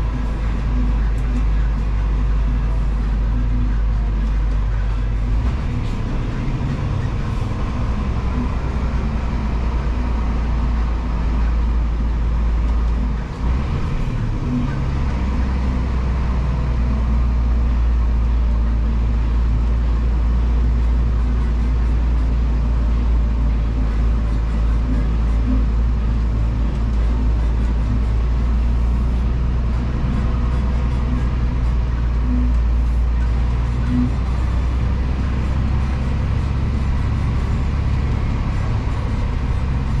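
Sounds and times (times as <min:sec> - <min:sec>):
diesel truck engine running: 0:00.0 - 0:40.0
road noise: 0:00.0 - 0:40.0.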